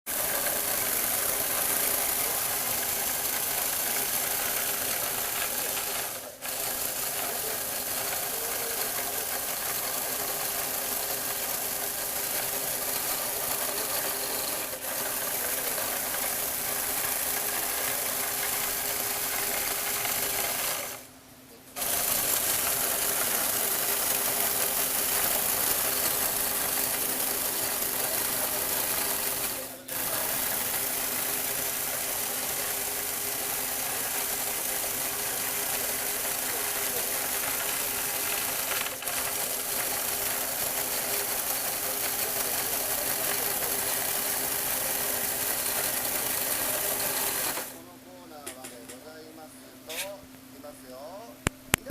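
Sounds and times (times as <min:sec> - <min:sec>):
toy motor and gears whirring: 0:00.1 - 0:21.1, 0:21.8 - 0:47.8.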